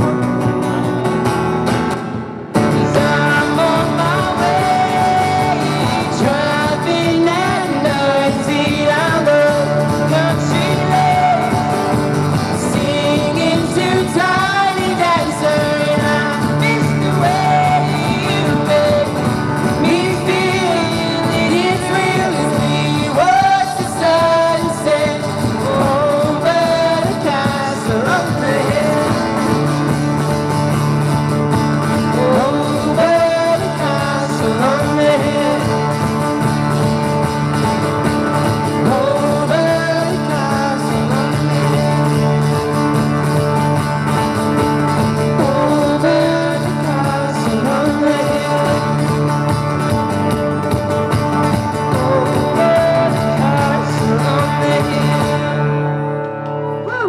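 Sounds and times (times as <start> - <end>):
acoustic guitars strummed: 0.0 - 57.0
men singing pop song: 2.6 - 30.2, 31.7 - 36.8, 37.4 - 42.5, 45.1 - 50.1, 51.7 - 56.2.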